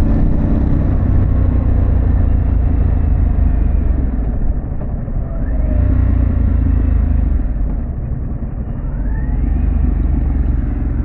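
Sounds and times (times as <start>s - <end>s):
motorcycle engine rumble: 0.0s - 11.0s
wind noise on microphone: 0.0s - 11.0s.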